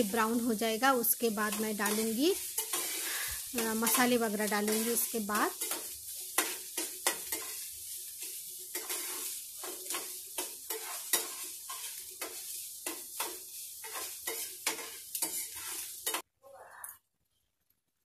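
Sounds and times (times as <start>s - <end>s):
onions sizzling in hot oil: 0.0s - 16.3s
metal spatula scraping a pan: 1.4s - 16.2s.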